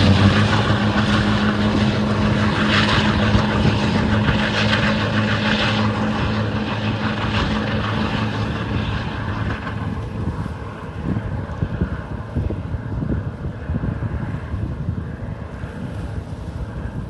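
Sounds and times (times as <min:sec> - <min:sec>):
boat engines droning: 0:00.0 - 0:17.0
wind gusting on microphone: 0:00.0 - 0:17.0.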